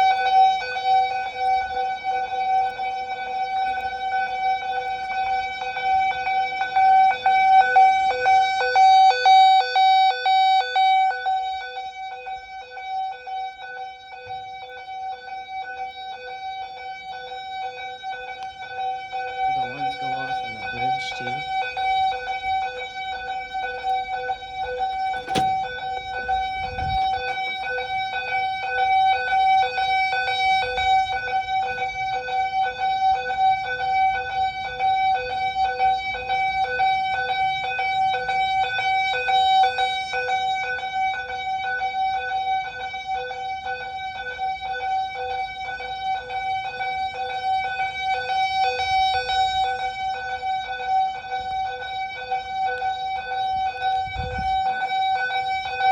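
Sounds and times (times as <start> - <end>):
pulsing fire alarm tone: 0.0 - 55.9.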